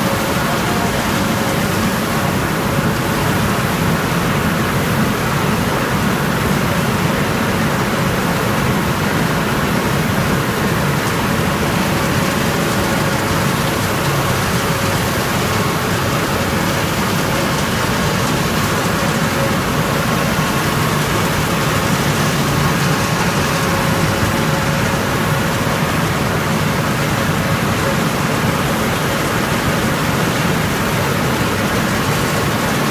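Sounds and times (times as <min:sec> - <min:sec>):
machinery running: 0:00.0 - 0:32.9.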